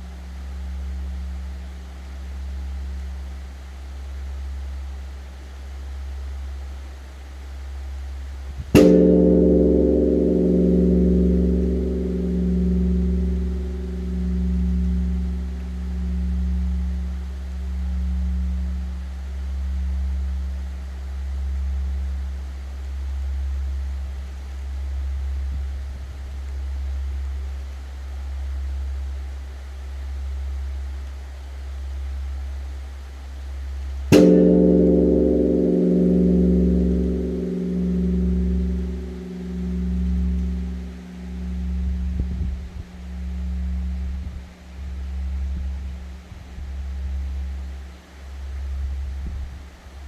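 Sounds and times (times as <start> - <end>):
large bronze bell humming: 0.0 - 3.4, 8.6 - 29.2, 33.9 - 50.0.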